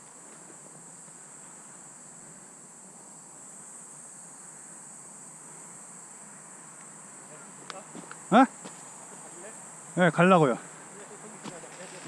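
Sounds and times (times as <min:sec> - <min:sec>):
faint background hiss: 0:00.0 - 0:12.0
high-pitched insect chorus: 0:00.0 - 0:12.0.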